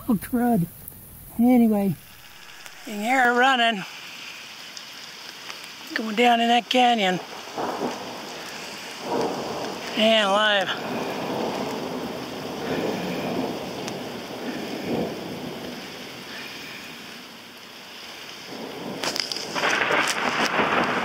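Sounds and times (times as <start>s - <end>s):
thunder rumbling: 0.0s - 4.5s, 5.1s - 21.0s
rain falling steadily: 0.0s - 21.0s.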